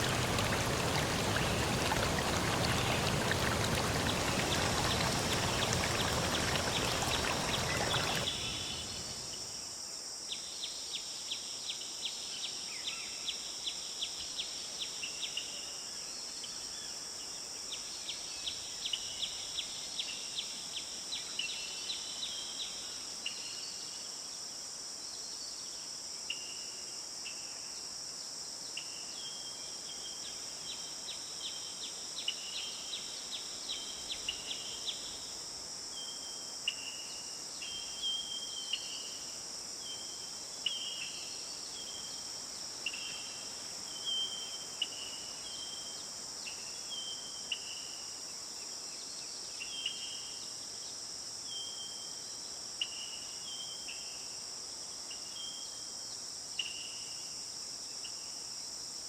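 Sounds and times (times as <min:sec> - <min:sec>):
crickets and insects chorus: 0:00.0 - 0:59.0.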